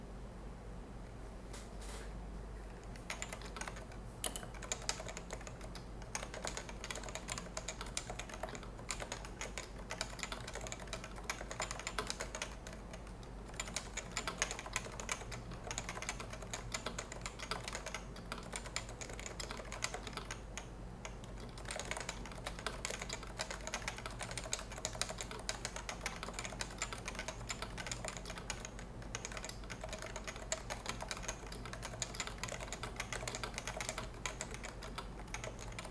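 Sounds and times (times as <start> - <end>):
fast keyboard typing: 2.9 - 35.9.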